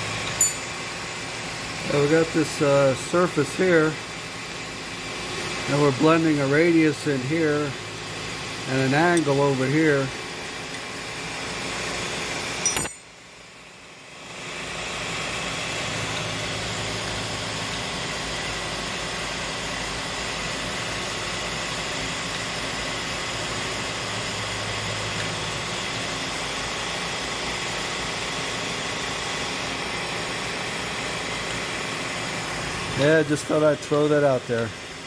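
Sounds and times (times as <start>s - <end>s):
milling machine spindle hum: 0.0s - 13.0s, 14.0s - 35.0s.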